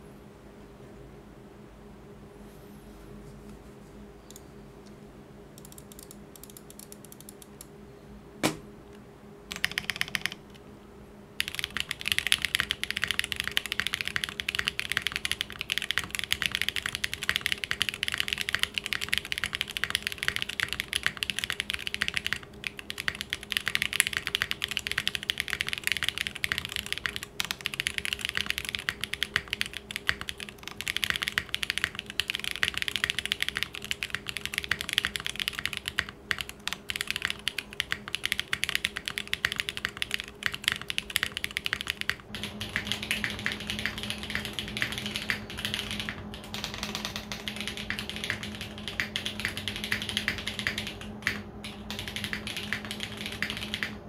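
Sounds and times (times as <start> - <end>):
mechanical keyboard typing: 5.6 - 7.6, 9.5 - 10.6, 11.4 - 54.0.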